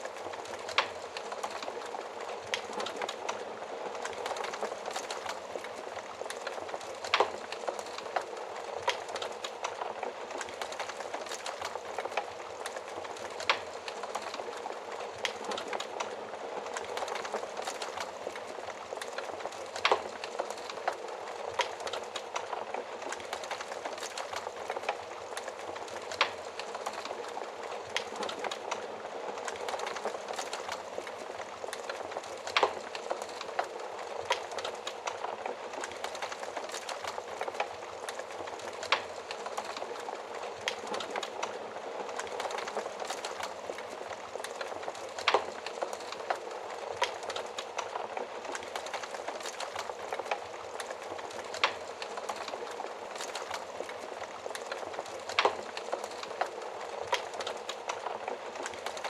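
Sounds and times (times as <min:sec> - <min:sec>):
fire popping: 0:00.0 - 0:59.0
wood fire hissing and crackling: 0:00.0 - 0:59.0.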